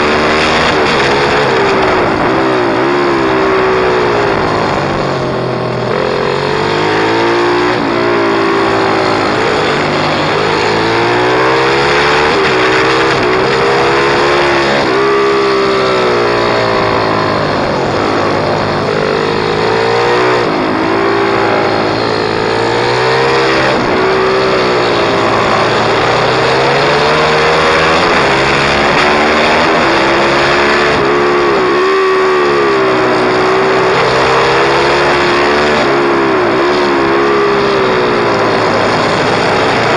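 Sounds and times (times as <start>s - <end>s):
small motorbike engine accelerating: 0.0s - 39.9s.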